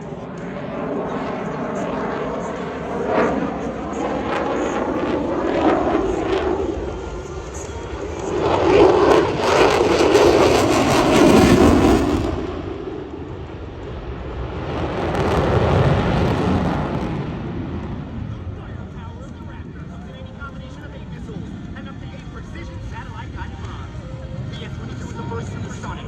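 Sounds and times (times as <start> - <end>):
jet engine roar: 0.0 - 26.0.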